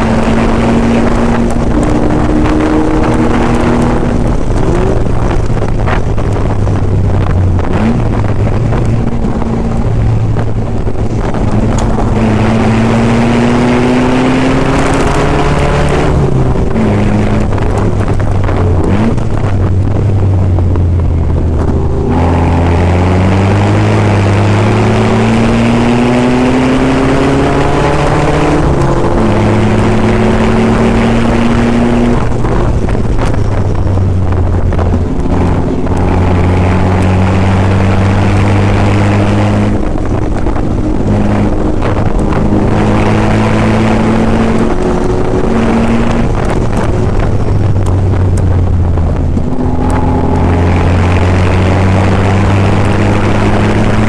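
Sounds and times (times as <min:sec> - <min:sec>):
car engine accelerating: 0:00.0 - 0:54.0
wind rushing: 0:00.0 - 0:54.0.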